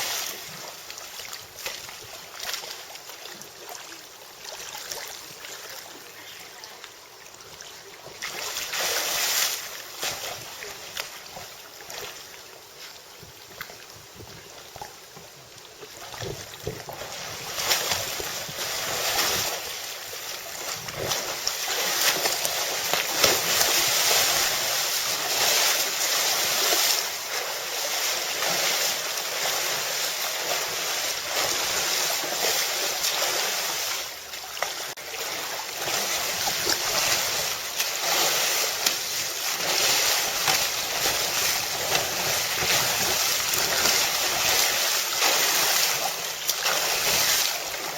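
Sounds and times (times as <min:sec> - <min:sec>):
rushing water: 0:00.0 - 0:47.9
wind: 0:00.0 - 0:47.9.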